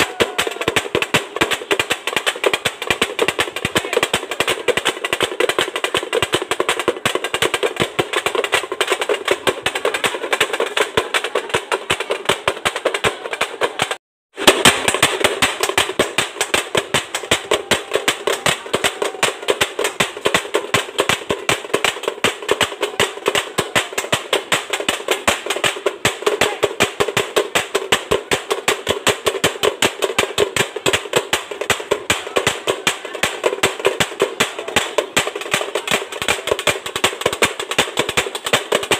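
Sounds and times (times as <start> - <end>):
fast drumming: 0.0 - 38.9.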